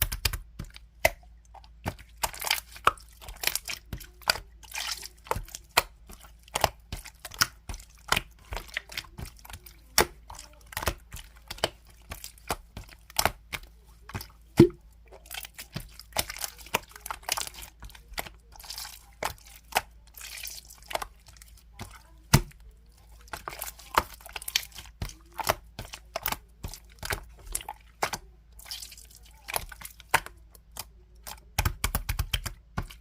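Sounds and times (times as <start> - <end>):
slime squished by hand: 0.0 - 33.0.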